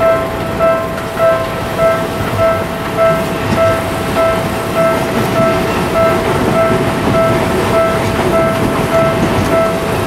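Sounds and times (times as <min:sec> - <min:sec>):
electric train rumbling past: 0:00.0 - 0:10.0
level-crossing alarm dinging: 0:00.0 - 0:10.0.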